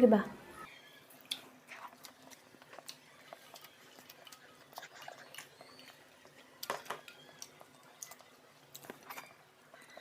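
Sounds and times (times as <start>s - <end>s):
soft chewing: 0.6s - 10.0s.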